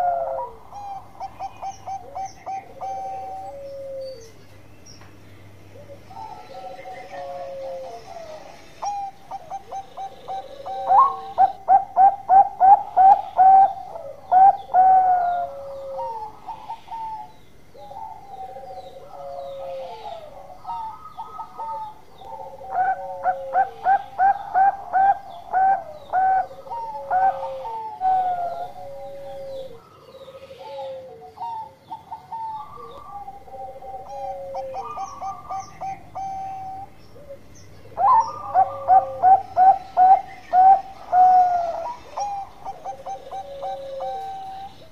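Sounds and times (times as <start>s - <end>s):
dove cooing: 0.0s - 4.6s, 5.5s - 44.9s.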